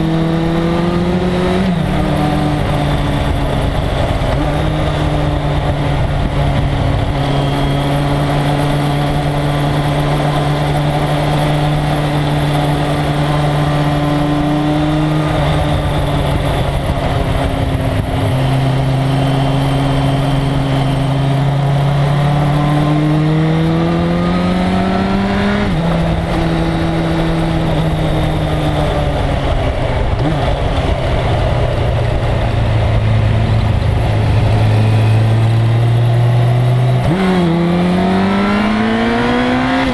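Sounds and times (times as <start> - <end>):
motorcycle engine running hard: 0.0 - 39.9
wind noise: 0.0 - 39.9.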